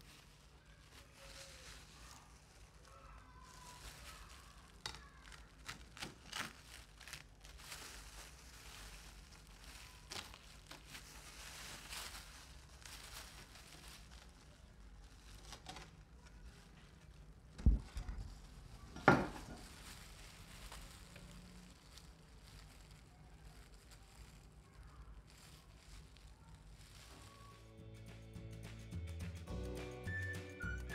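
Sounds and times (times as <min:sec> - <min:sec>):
plastic glove crinkling: 0:00.0 - 0:30.8.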